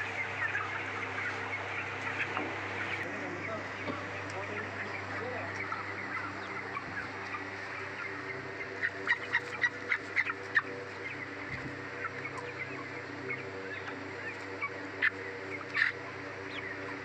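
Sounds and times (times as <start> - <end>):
chicks peeping: 0.0 - 17.0
steady low hum: 0.0 - 17.0.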